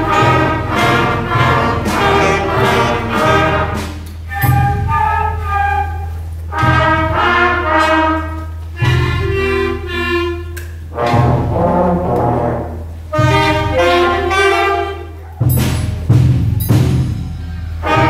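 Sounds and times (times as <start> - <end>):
concert band playing: 0.0 - 18.0.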